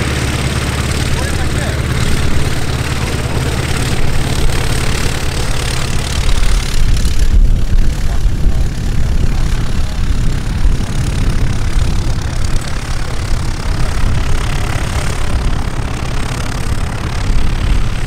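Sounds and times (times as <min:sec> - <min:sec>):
propeller aircraft engines rumbling: 0:00.0 - 0:18.0.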